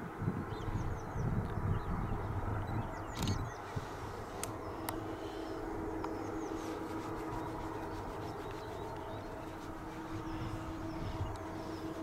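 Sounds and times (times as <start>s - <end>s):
train humming and rumbling: 0.0s - 12.0s
birds chirping: 0.4s - 12.0s.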